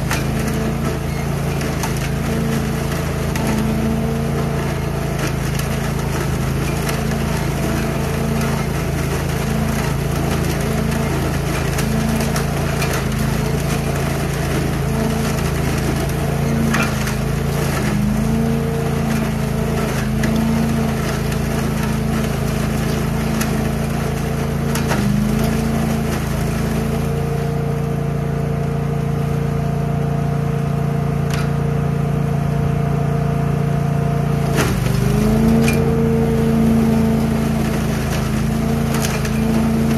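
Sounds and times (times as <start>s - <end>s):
leaves and twigs rattling through hose: 0.0s - 27.6s, 34.4s - 39.9s
debris loader engine running: 0.0s - 39.9s.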